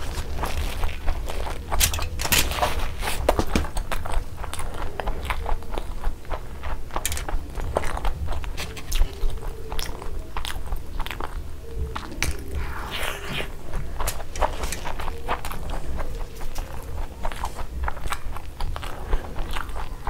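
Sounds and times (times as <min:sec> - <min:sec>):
close chewing and biting: 0:00.0 - 0:20.0
steady low hum: 0:00.0 - 0:20.0.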